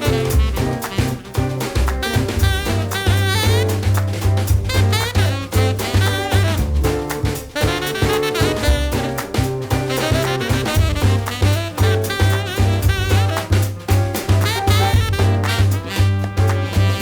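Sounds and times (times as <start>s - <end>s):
swing jazz with brass: 0.0s - 17.0s.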